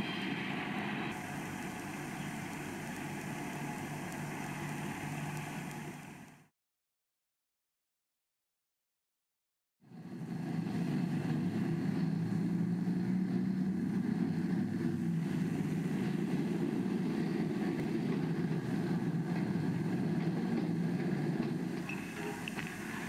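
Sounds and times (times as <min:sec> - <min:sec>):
low mechanical rumble: 0:00.5 - 0:06.5, 0:09.9 - 0:23.0.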